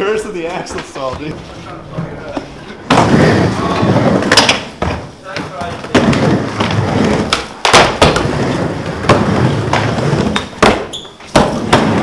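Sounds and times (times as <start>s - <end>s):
skateboard wheels rolling on wood: 0.6s - 12.0s.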